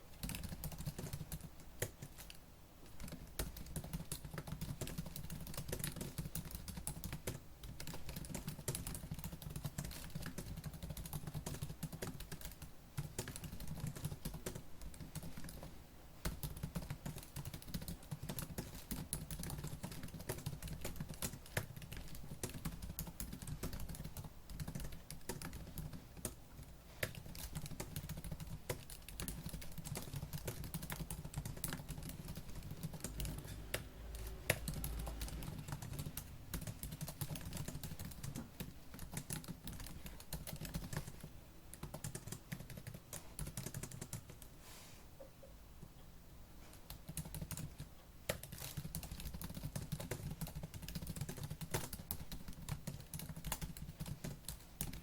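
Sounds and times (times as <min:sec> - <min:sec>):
fast typing on laptop keyboard: 0:00.1 - 0:44.5, 0:46.6 - 0:55.0.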